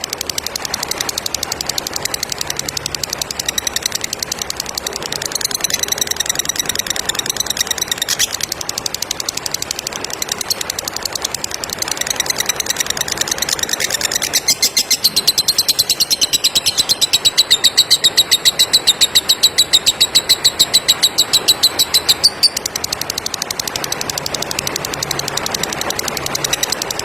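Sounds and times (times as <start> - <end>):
bird chattering trill: 0.0 - 27.0.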